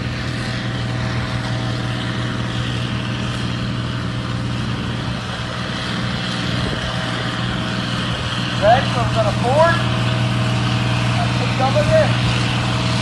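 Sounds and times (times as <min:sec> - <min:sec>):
tractor diesel engine humming: 0:00.0 - 0:13.0.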